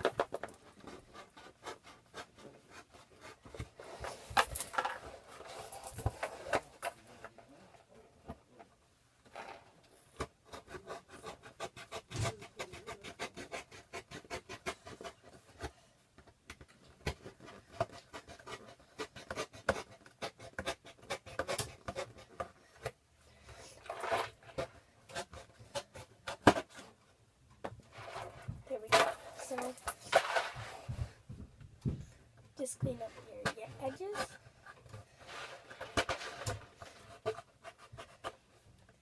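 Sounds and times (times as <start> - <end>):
scratching on cardboard and paper: 0.0 - 8.6, 9.2 - 39.0.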